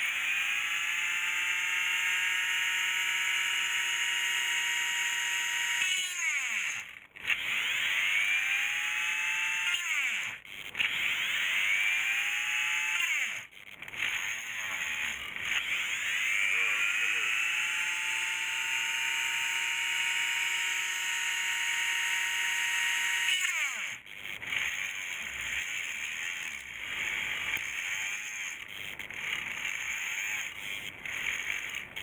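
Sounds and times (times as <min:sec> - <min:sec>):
small electric motor whining: 0:00.0 - 0:32.0.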